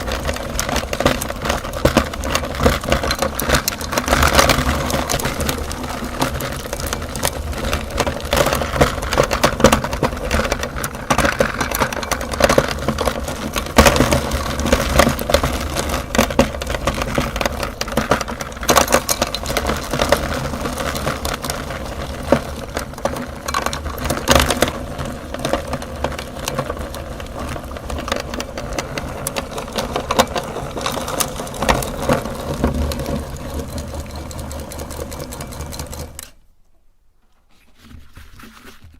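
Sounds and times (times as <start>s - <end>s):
meat grinder motor running: 0.0s - 36.2s
crackling and crunching food: 0.0s - 36.4s.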